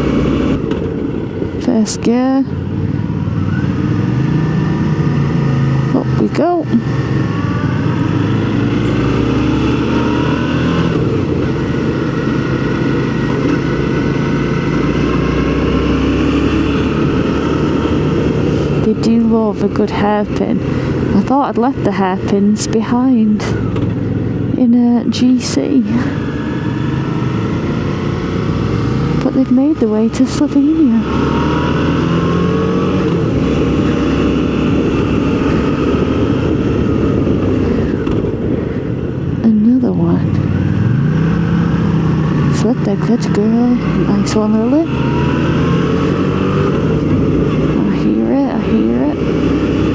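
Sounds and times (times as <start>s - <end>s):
motorcycle engine pulling uphill: 0.0s - 49.9s
wind noise: 0.0s - 49.9s.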